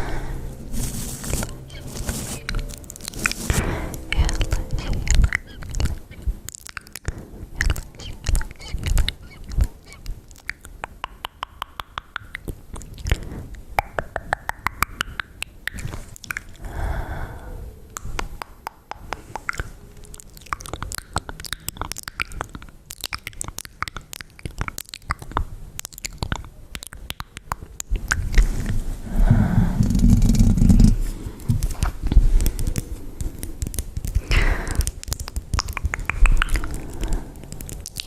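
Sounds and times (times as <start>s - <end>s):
wet mouth clicks and smacks: 2.4s - 16.6s, 17.9s - 28.8s, 29.9s - 38.0s.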